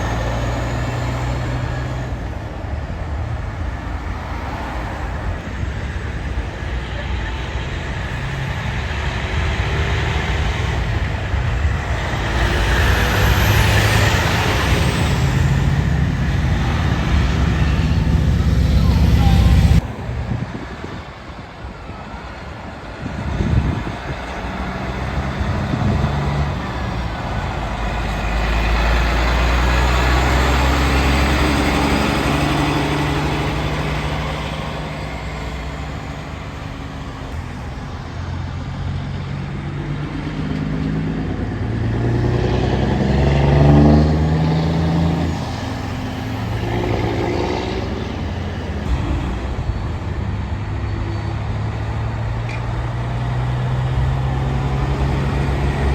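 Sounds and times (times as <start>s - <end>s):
diesel trucks driving past: 0.0s - 55.9s
truck engine accelerating: 0.0s - 55.9s.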